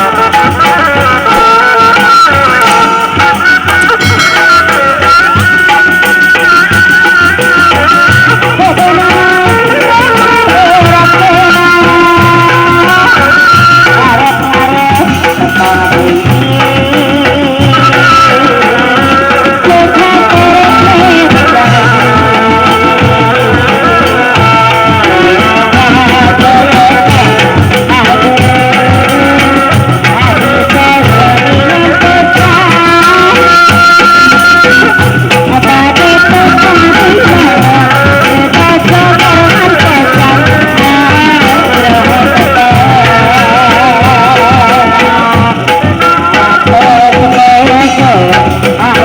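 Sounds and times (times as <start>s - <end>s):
steady drum pattern: 0.0s - 49.0s
wavering melody line: 2.2s - 48.8s.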